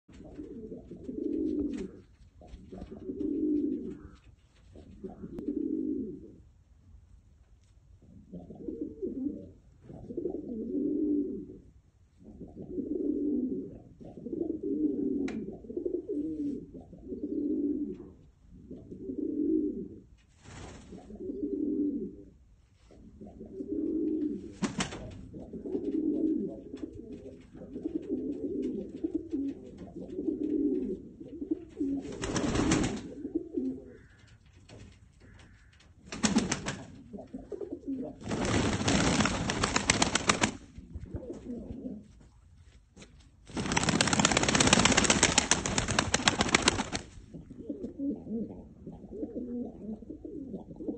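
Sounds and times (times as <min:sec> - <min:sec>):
pigeons cooing: 0:00.1 - 0:06.4, 0:08.1 - 0:20.1, 0:20.9 - 0:22.3, 0:23.0 - 0:34.6, 0:35.2 - 0:42.1, 0:43.6 - 0:50.9.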